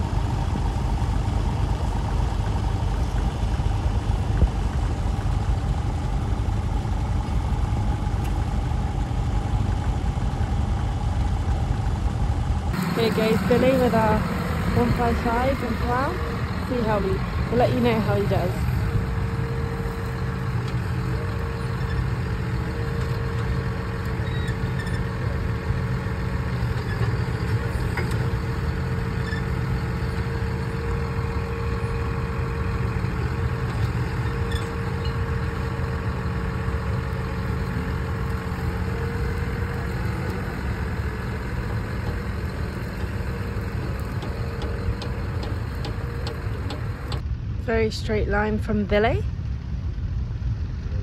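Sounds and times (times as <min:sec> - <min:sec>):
steady whine: 0:00.0 - 0:51.0
tractor diesel engine running: 0:00.0 - 0:51.0.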